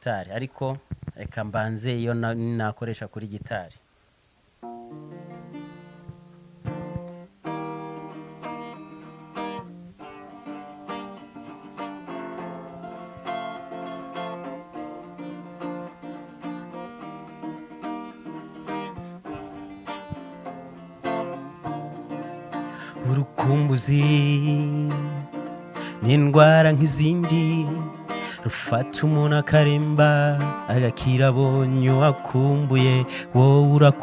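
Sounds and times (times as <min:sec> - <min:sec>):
acoustic guitar playing: 0:04.6 - 0:34.0.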